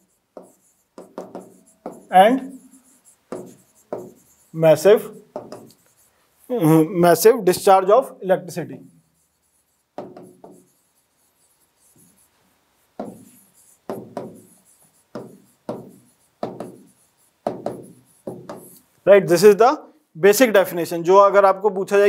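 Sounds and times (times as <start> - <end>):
pen strokes on whiteboard screen: 0.0 - 19.6.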